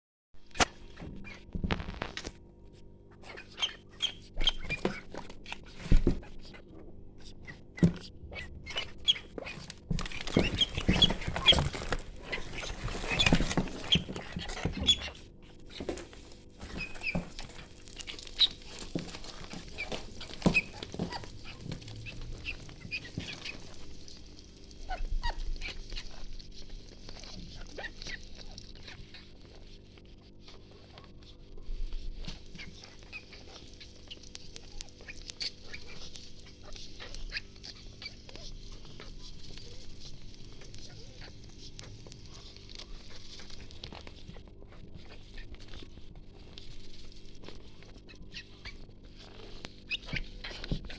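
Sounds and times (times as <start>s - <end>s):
rustling: 0.4s - 50.9s
ducklings peeping: 3.1s - 50.9s.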